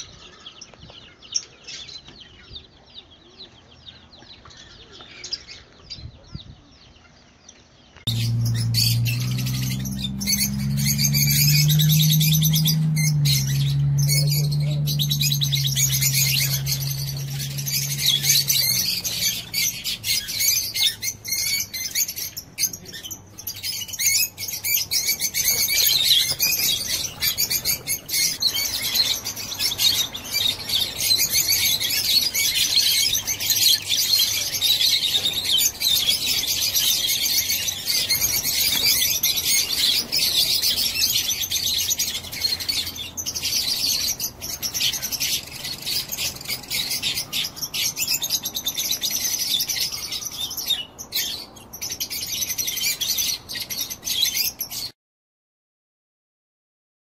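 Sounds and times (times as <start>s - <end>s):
lovebirds twittering: 0.0s - 54.9s.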